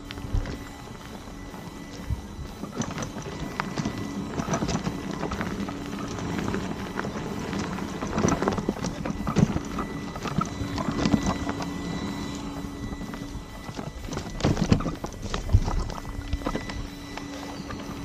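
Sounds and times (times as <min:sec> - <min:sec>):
faint wheel motor hum: 0:00.0 - 0:18.0
tyre rumble on dirt trail: 0:00.0 - 0:18.0.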